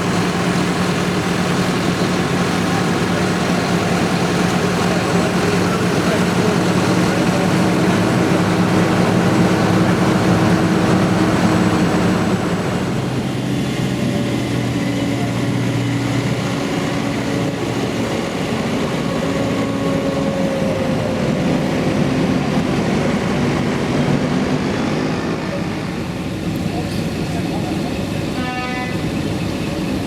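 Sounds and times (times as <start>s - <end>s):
tractor engines running: 0.0s - 28.3s.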